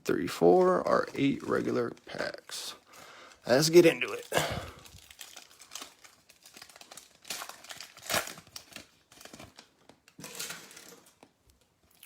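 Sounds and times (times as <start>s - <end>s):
card wrappers crinkling and tearing: 0.2s - 11.3s.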